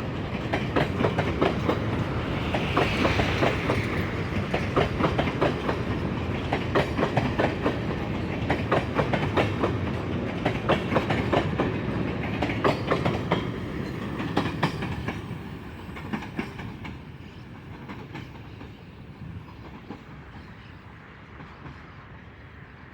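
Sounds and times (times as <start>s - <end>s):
train wheels clattering over rail joints: 0.0s - 20.6s
train rumble: 0.0s - 22.9s.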